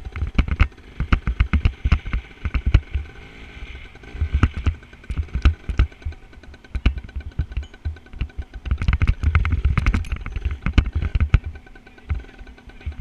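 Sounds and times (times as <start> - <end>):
sharp knocks and rattles: 0.0 - 3.4, 4.0 - 13.0
dirt bike engine running: 0.0 - 13.0.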